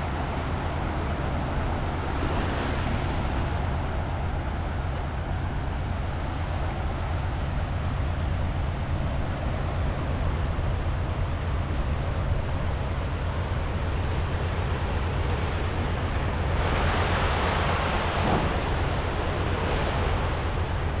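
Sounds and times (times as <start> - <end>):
small waves breaking on sand: 0.0 - 21.0
wind rumble on microphone: 0.0 - 21.0.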